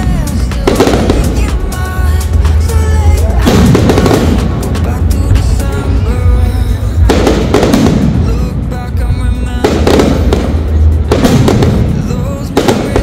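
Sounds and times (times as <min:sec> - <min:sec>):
firework booms: 0:00.0 - 0:13.0
music playing: 0:00.0 - 0:13.0.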